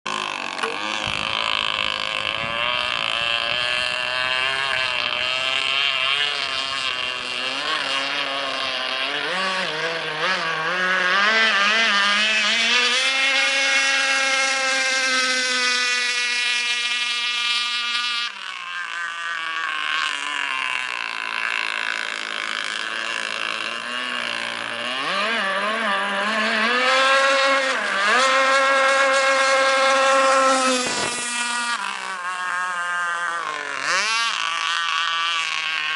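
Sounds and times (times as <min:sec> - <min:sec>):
model boat petrol engine running: 0:00.1 - 0:35.9.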